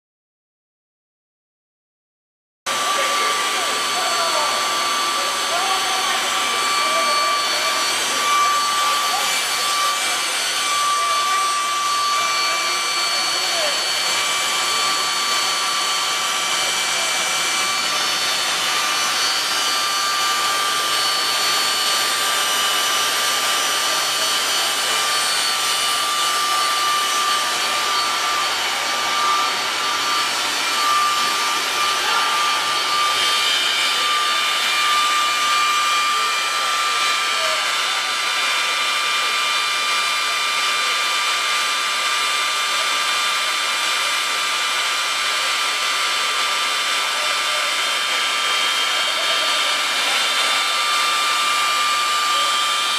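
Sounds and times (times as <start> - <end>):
high steady machine whine: 2.7 - 52.9.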